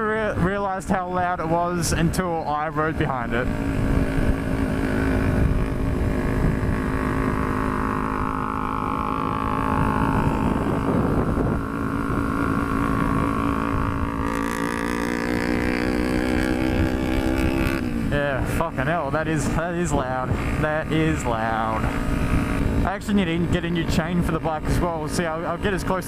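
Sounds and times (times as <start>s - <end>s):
motorcycle engines running: 0.0s - 26.0s
wind rumble on helmet: 0.0s - 26.0s.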